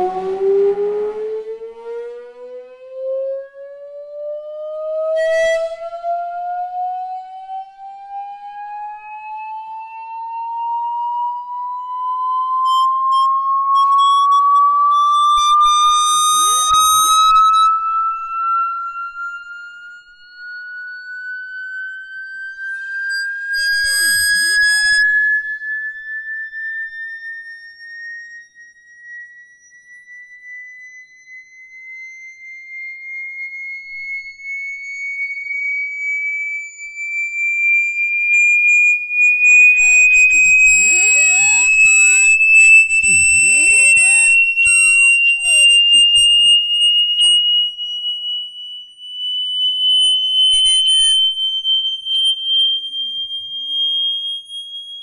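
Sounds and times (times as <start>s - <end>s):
rising high-pitched pure tone: 0.0s - 29.2s, 38.0s - 54.1s.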